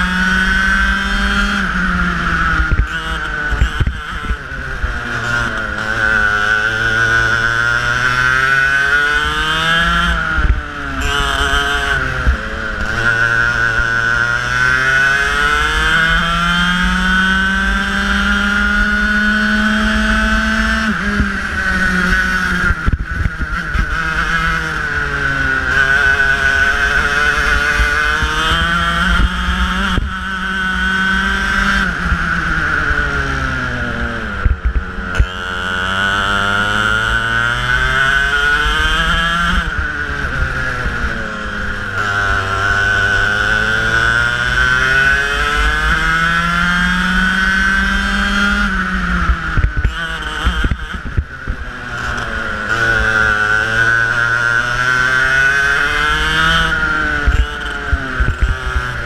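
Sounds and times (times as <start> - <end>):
racing kart engine: 0.0 - 59.0.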